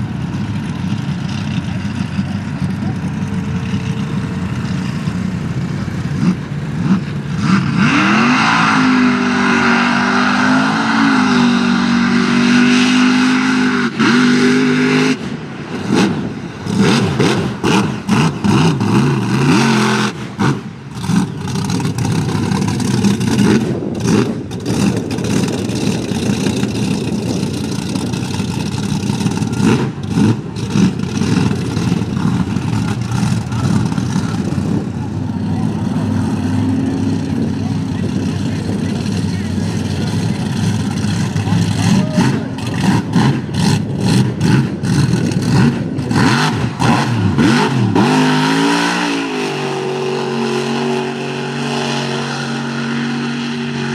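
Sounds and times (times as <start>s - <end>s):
truck engine revving hard: 0.0s - 53.9s.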